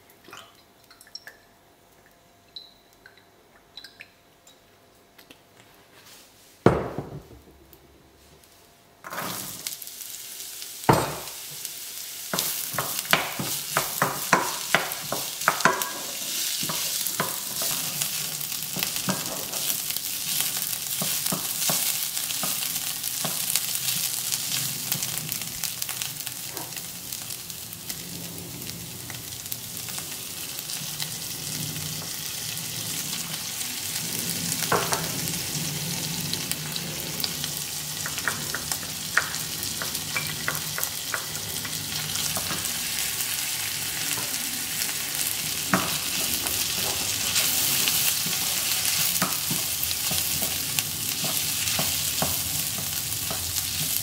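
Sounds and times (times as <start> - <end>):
onions sizzling in frying pan: 8.4 - 54.0.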